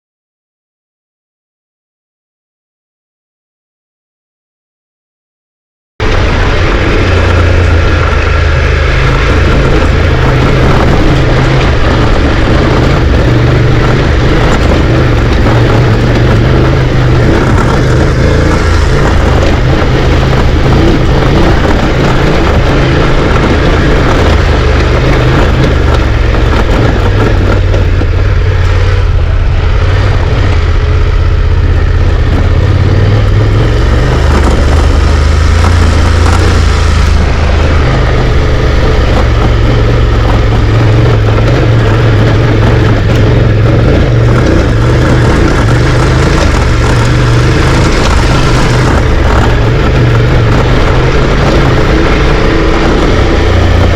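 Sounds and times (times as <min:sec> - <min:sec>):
suspension rattling and knocking: 0:06.0 - 0:53.9
vehicle low rumble: 0:06.0 - 0:53.9.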